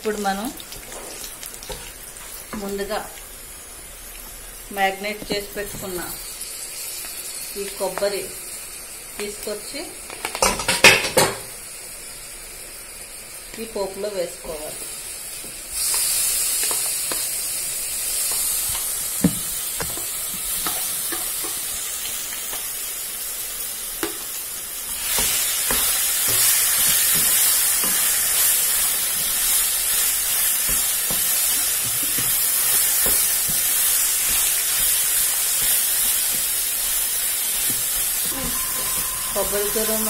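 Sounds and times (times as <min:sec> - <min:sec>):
coconut sizzling in hot oil: 0:00.0 - 0:40.0.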